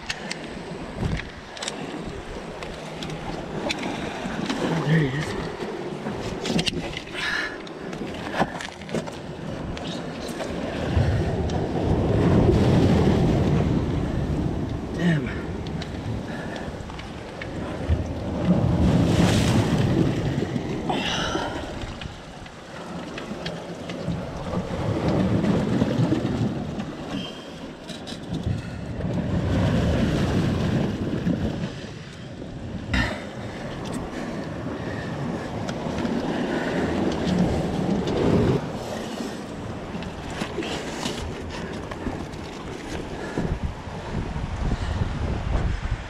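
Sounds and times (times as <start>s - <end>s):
wind buffeting microphone: 0.0s - 7.2s, 9.2s - 46.0s
sea water washing over rocks: 0.0s - 46.0s.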